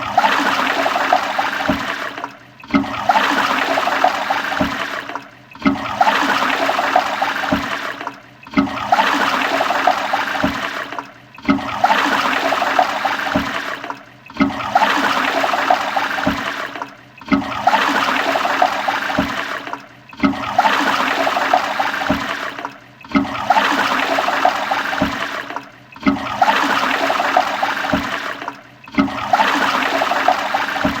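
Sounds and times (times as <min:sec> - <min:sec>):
toilet flushing: 0:00.0 - 0:31.0.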